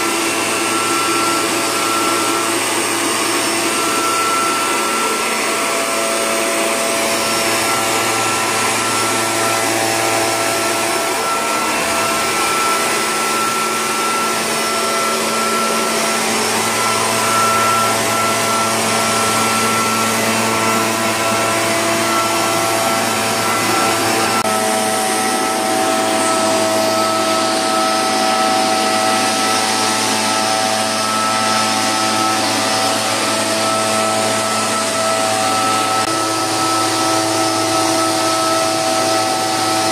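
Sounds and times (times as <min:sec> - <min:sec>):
blower fan rushing: 0:00.0 - 0:39.9
two-stroke engine running: 0:00.0 - 0:39.9.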